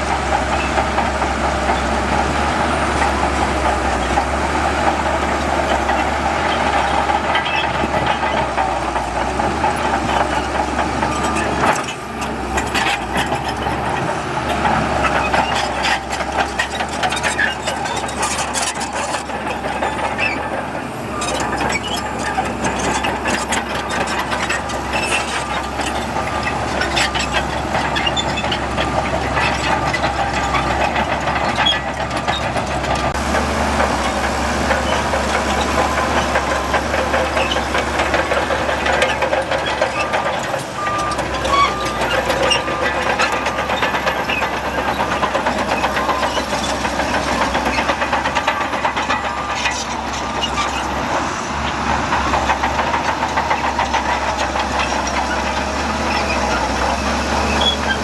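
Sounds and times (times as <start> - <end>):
diesel engine under load: 0.0 - 58.0
metallic clanks and knocks: 3.0 - 58.0.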